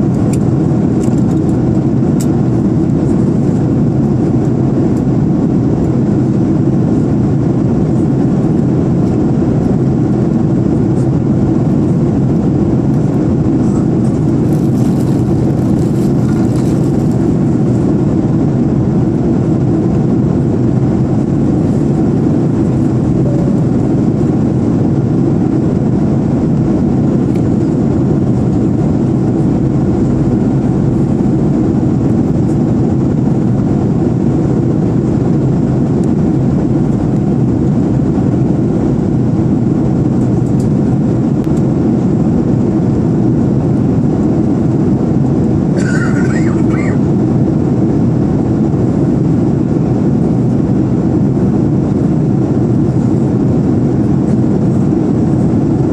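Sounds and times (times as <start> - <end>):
airplane engines rumbling: 0.0 - 55.9
rushing airflow: 0.0 - 55.9.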